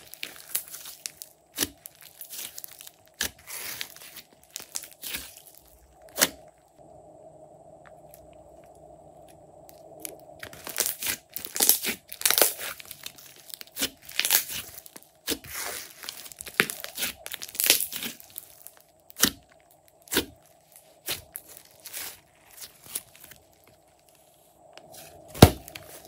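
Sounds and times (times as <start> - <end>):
slime squishing and crackling: 0.0 - 6.7, 9.7 - 24.3, 24.9 - 26.0.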